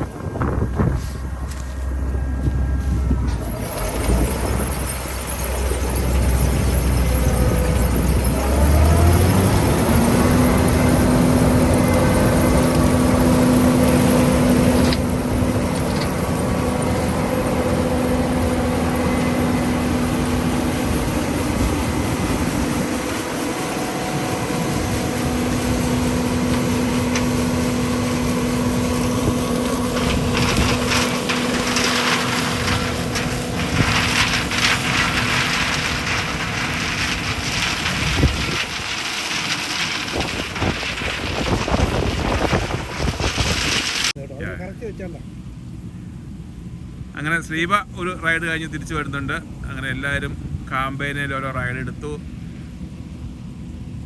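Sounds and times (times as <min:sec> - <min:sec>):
machinery engine humming: 0:00.0 - 0:44.2
rough rushing noise: 0:00.0 - 0:44.2.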